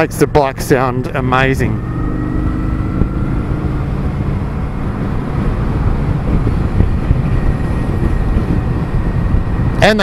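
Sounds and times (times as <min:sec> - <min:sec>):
motorcycle engine rumble: 0:00.0 - 0:10.0
road and wind noise: 0:00.0 - 0:10.0.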